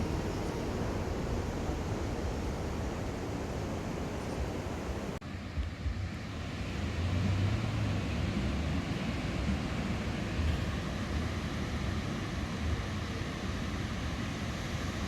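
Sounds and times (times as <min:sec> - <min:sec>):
wind hiss: 0:00.0 - 0:15.0.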